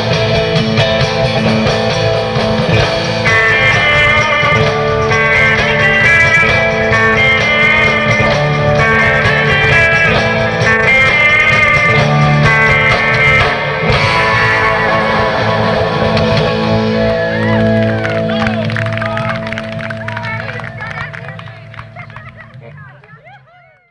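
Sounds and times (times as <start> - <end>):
instrumental rock music: 0.0 - 23.4.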